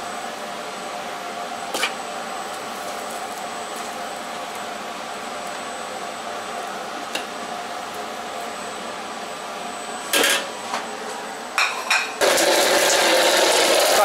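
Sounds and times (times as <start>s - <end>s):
kitchen background hum: 0.0s - 14.0s.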